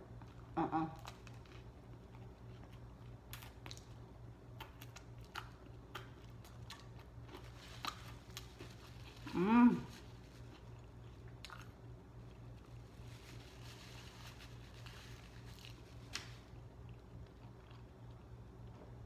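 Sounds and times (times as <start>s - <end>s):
low steady hum: 0.0s - 19.0s
person chewing: 0.1s - 18.8s.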